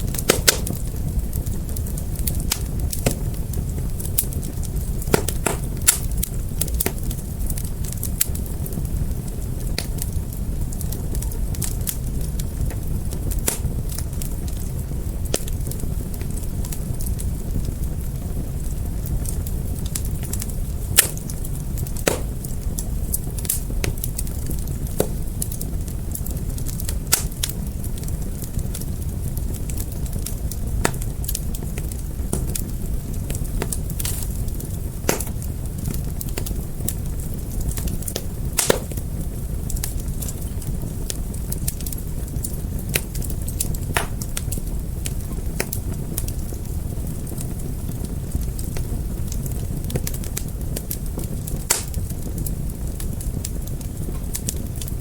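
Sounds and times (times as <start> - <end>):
fire crackling: 0.0 - 55.0
sharp pops and cracks of fire: 0.0 - 55.0.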